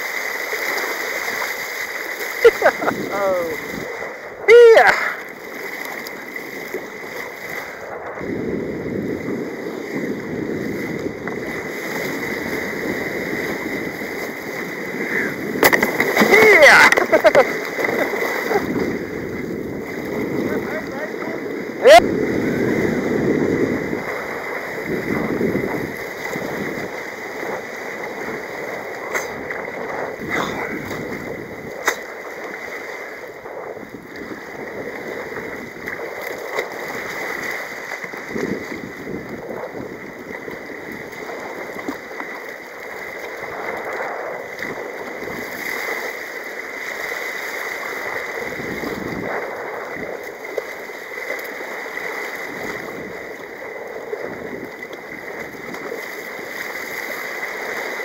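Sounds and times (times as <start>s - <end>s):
rough sea water rushing and splashing: 0.0s - 58.0s.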